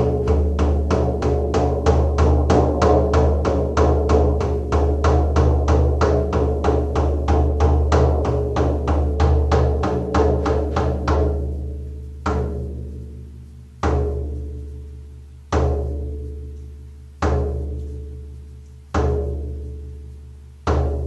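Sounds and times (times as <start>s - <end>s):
hand drum beats: 0.0s - 21.0s.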